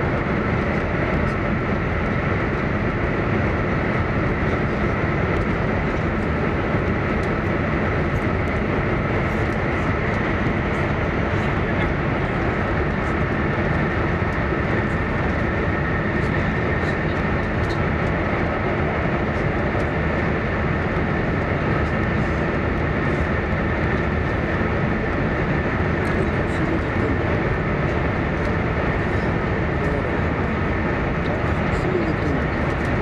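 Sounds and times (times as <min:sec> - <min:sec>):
train running rush: 0:00.0 - 0:33.0.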